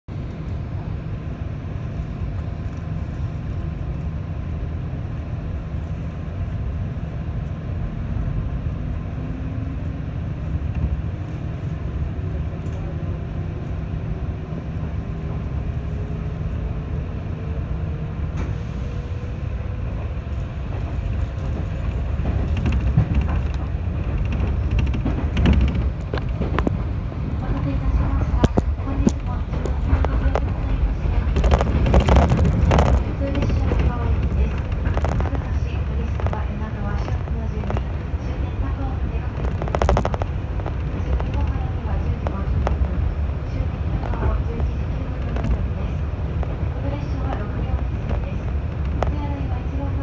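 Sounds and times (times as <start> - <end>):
train running gear rumbling: 0.0 - 50.0.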